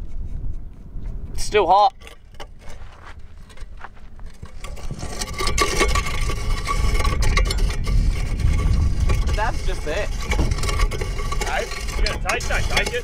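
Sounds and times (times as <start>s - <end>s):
rough scraping noise: 1.4s - 13.0s.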